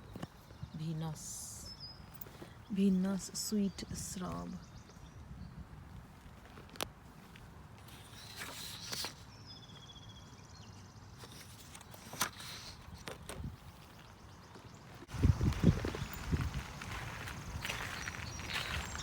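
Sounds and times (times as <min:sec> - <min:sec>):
footsteps outdoors: 0:00.0 - 0:19.0.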